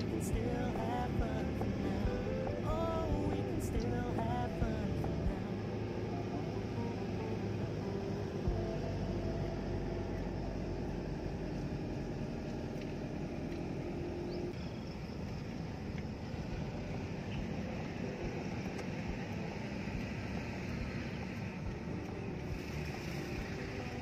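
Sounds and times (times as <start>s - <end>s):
car engine and tyre rumble: 0.0s - 24.0s
faint steady hum: 0.0s - 24.0s.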